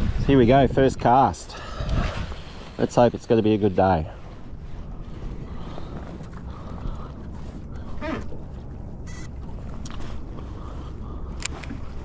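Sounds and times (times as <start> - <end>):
wind on microphone: 0.0 - 12.0
water lapping at boat: 1.4 - 12.0.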